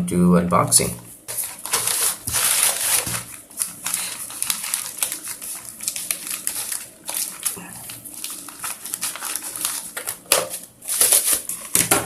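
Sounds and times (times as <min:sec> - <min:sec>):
packaging rustling and crinkling: 0:01.2 - 0:12.0.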